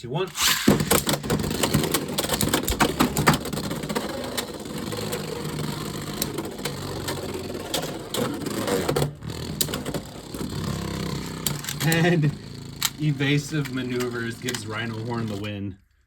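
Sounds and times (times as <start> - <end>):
spinning tops clacking: 0.3 - 15.6
tops whirring and grinding: 0.3 - 15.6.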